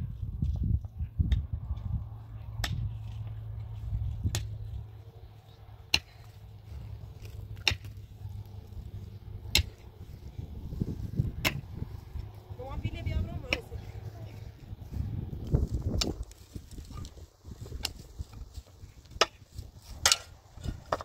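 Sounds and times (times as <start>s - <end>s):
low rumble: 0.0s - 20.9s.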